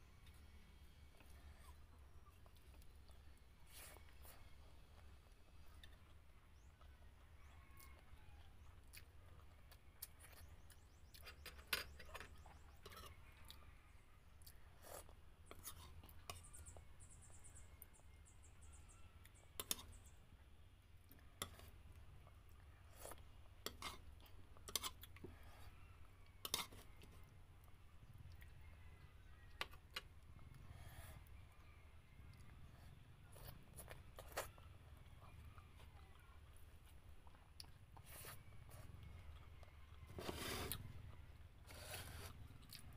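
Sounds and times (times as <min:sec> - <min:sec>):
soft chewing: 0:00.0 - 0:42.9.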